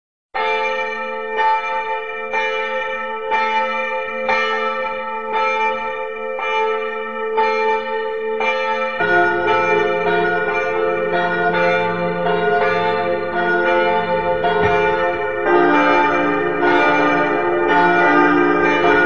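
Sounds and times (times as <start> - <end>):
church bells ringing: 0.4 - 19.0.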